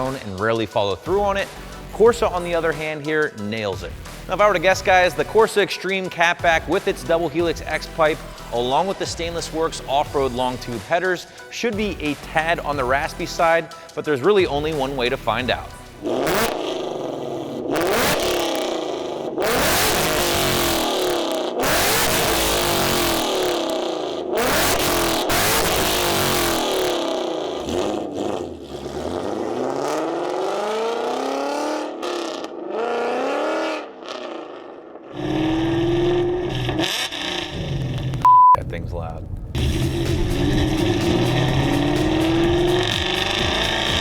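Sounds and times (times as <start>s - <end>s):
loud raspy car engine revving: 0.0s - 0.5s, 1.1s - 2.9s, 3.9s - 5.7s, 6.5s - 10.9s, 12.0s - 13.8s, 14.6s - 38.2s, 39.5s - 44.0s.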